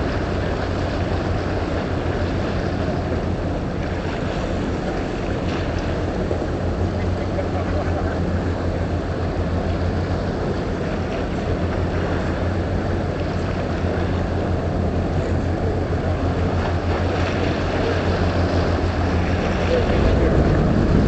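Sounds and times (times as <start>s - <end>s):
motorboat engine humming: 0.0s - 21.0s
wind and water rushing: 0.0s - 21.0s.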